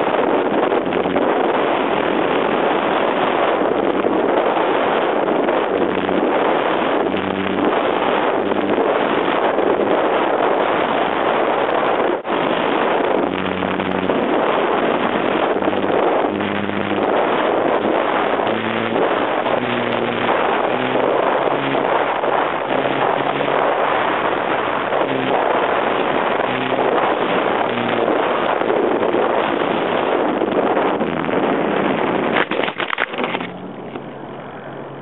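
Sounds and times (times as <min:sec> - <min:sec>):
short low hums: 0:00.0 - 0:10.1, 0:12.2 - 0:35.0
wind rushing over microphone: 0:00.0 - 0:35.0.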